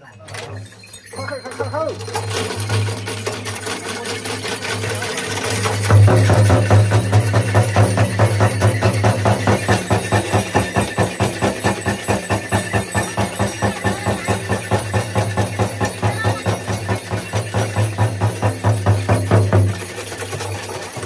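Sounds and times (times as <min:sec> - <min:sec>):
bells jingling: 0:00.0 - 0:21.0
frame drum beaten fast: 0:02.0 - 0:21.0.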